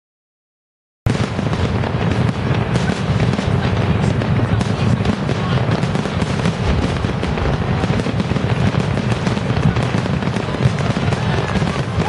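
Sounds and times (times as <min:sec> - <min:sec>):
fireworks bangs and crackles: 0:01.1 - 0:12.0.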